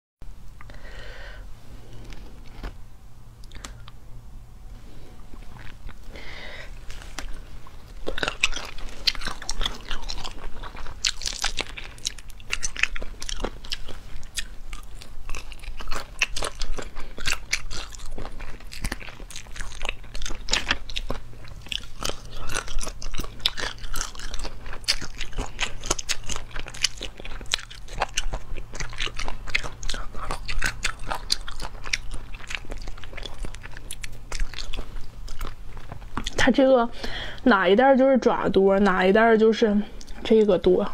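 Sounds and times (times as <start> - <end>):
steady low hum: 0.2 - 40.9
chewing with crackles: 3.4 - 4.0, 4.7 - 37.5, 38.8 - 40.9.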